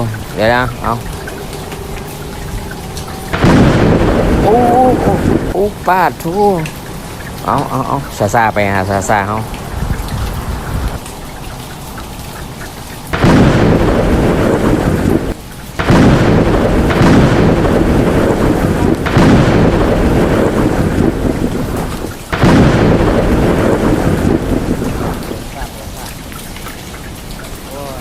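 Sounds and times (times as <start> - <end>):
heavy rain downpour: 0.0 - 28.0.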